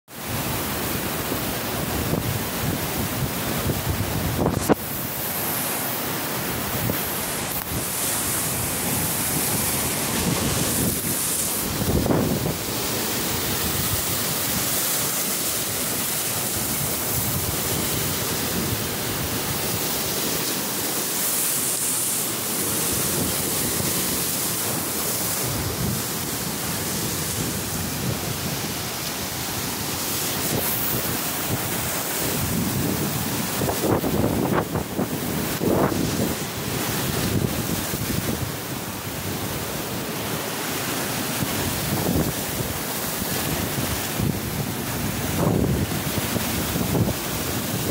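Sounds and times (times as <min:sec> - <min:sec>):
waves breaking over seawall: 0:00.1 - 0:47.9
wind buffeting microphone: 0:01.8 - 0:05.3, 0:06.6 - 0:20.4, 0:22.7 - 0:38.6, 0:41.4 - 0:47.9.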